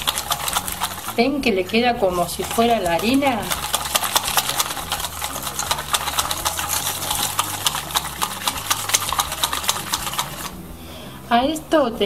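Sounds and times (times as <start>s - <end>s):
whisk clicking against metal bowl: 0.0s - 10.6s.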